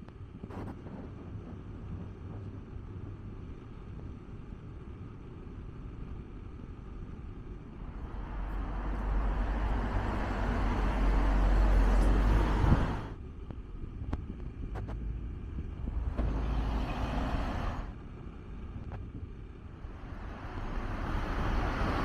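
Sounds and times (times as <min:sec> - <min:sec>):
motor vehicle on street: 0:00.0 - 0:22.0.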